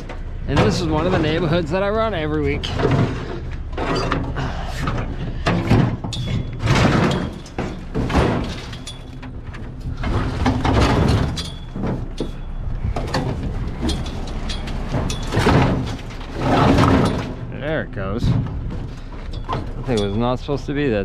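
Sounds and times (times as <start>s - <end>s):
heavy scrap banging and scraping: 0.0s - 21.0s.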